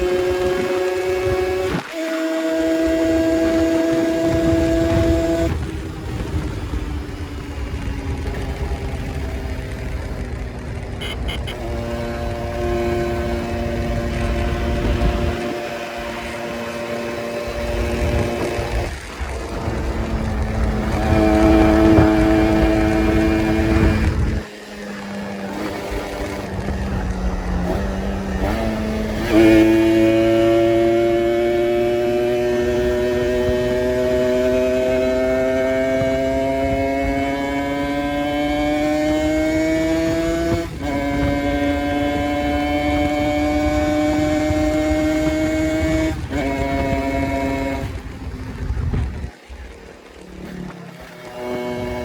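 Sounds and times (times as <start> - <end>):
two-stroke motorcycle engine running: 0.0 - 52.0.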